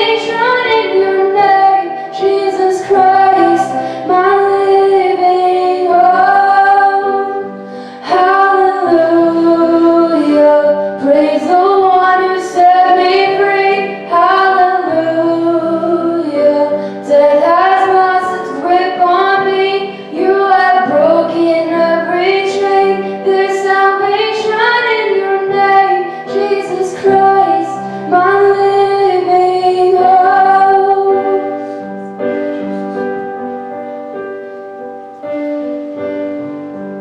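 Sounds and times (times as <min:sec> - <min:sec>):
woman singing worship song: 0:00.0 - 0:31.8
piano chords: 0:00.0 - 0:37.0.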